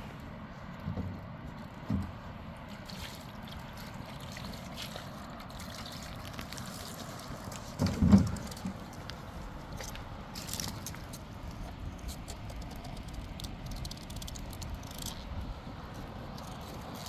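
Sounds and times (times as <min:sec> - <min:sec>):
water trickling: 0:02.6 - 0:17.0.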